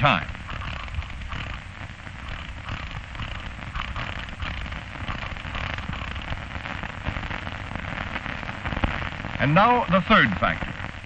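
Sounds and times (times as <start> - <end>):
old film soundtrack crackle: 0.0 - 11.0.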